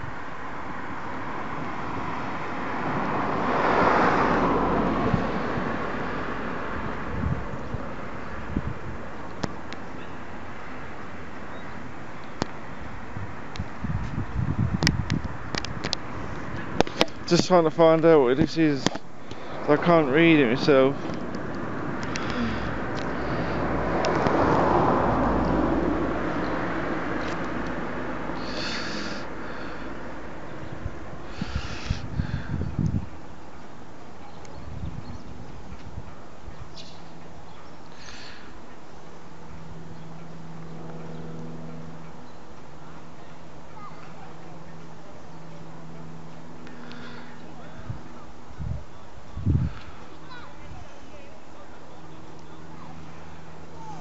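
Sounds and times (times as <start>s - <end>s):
car passing: 0.0s - 54.0s
outdoor background noise: 0.0s - 54.0s.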